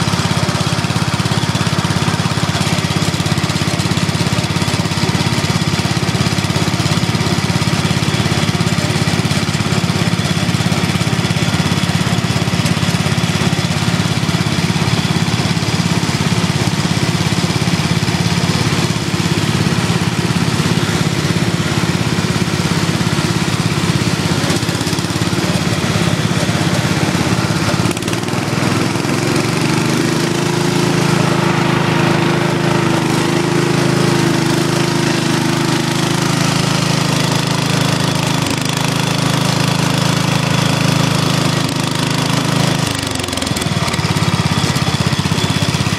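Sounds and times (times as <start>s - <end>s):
small tractor engines running: 0.0s - 45.9s.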